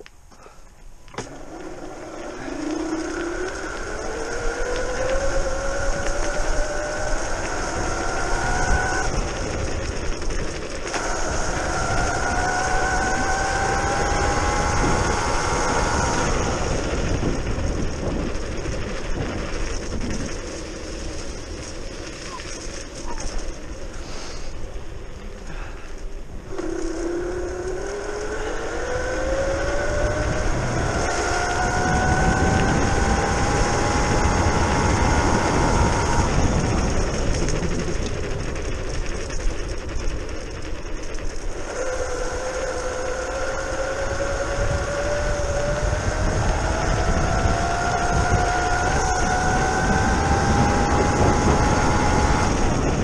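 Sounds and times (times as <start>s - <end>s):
electric scooter motor whining: 0.0s - 53.0s
tyre noise: 0.0s - 53.0s
wind noise: 0.0s - 53.0s.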